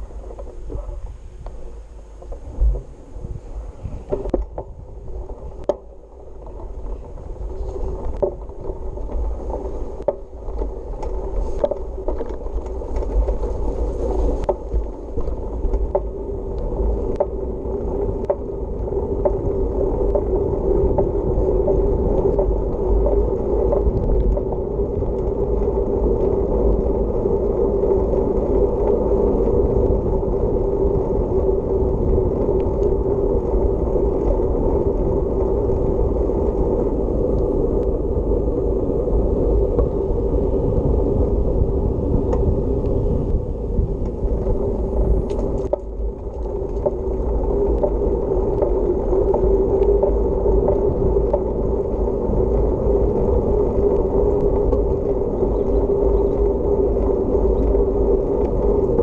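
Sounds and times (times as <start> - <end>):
tyres rolling on asphalt: 0.0 - 59.0
wind rushing over microphone: 0.0 - 59.0.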